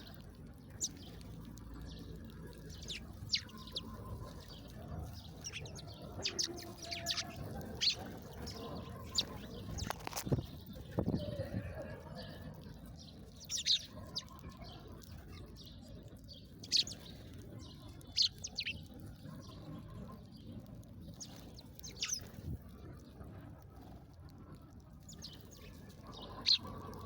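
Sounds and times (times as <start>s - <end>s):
songbird chirping: 0.0s - 22.5s, 25.0s - 27.0s.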